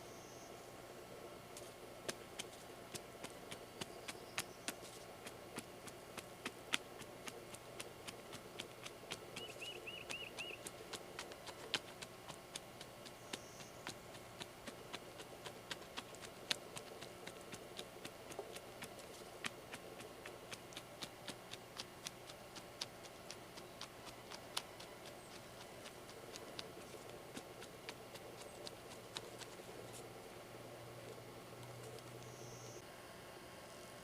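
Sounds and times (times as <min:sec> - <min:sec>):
faint steady background noise: 0:00.0 - 0:34.0
sharp irregular clicks: 0:02.0 - 0:30.3.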